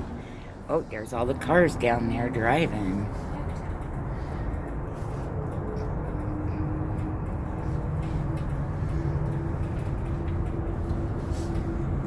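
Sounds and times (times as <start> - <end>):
cable car rumble and hiss: 0.0 - 12.0.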